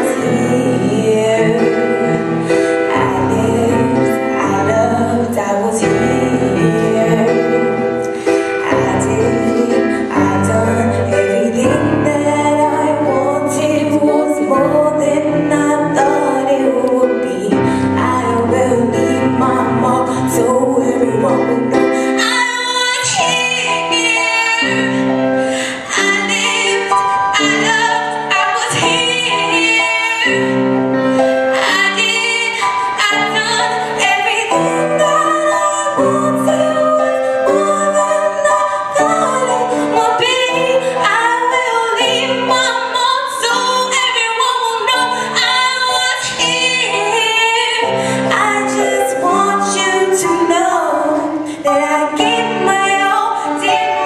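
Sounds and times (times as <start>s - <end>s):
electric keyboard chords: 0.0s - 54.0s
woman singing a ballad: 0.0s - 54.0s.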